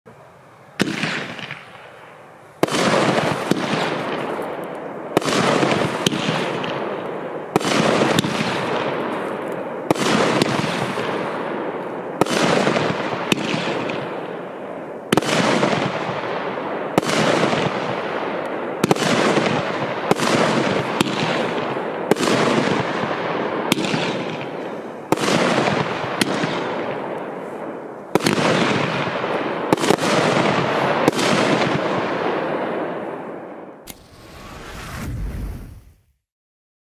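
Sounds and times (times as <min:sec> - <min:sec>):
firework shots bursting: 0:00.8 - 0:36.0.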